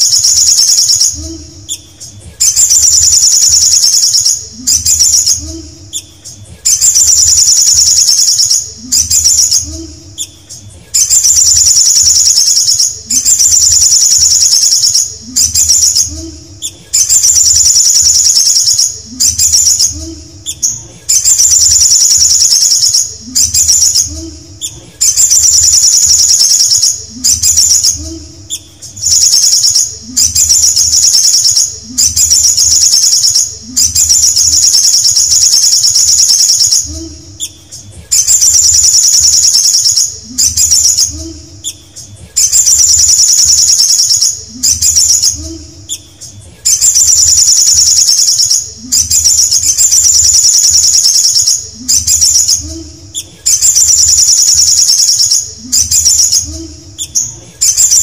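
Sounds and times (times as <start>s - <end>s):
sunbird singing trilled phrases: 0.0s - 58.0s.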